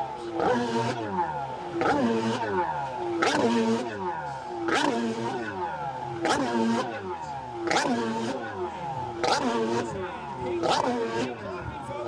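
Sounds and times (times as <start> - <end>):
jet ski engine revving: 0.0 - 12.0.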